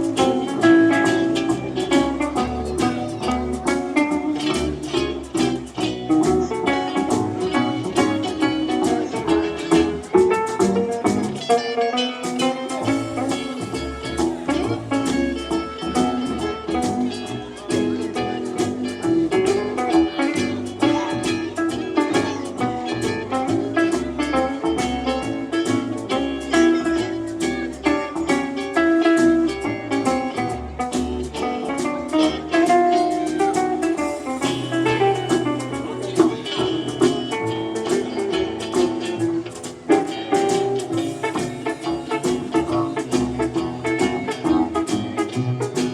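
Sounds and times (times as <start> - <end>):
acoustic band playing: 0.0 - 45.9
guitar picking and strumming: 0.0 - 45.9.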